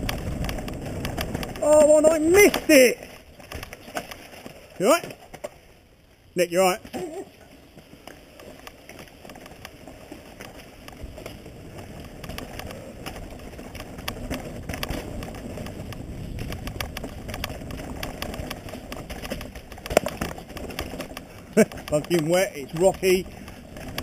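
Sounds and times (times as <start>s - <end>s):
bike clattering and rattling: 0.0s - 24.0s
rumble of bike tyres: 0.0s - 24.0s.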